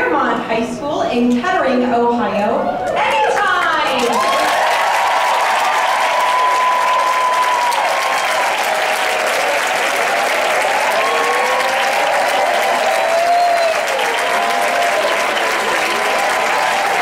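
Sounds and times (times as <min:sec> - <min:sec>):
audience applauding: 0:03.0 - 0:17.0.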